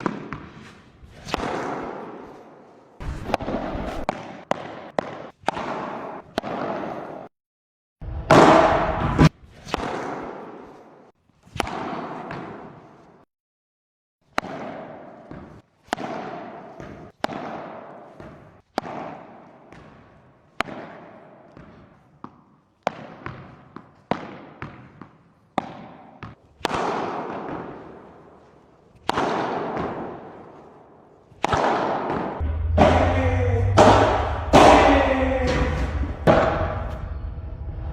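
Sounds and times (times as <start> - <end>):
padel ball struck by racket: 0.0 - 2.4, 3.0 - 7.3, 8.3 - 10.6, 11.5 - 12.8, 14.3 - 28.2, 28.9 - 30.7, 31.3 - 36.9.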